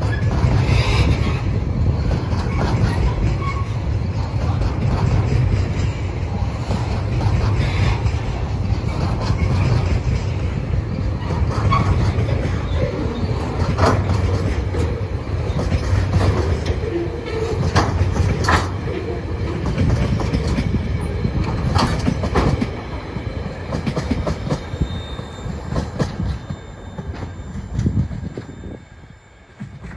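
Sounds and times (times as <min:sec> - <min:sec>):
train wheels clacking over rail joints: 0:00.0 - 0:28.6
train rumble: 0:00.0 - 0:29.9.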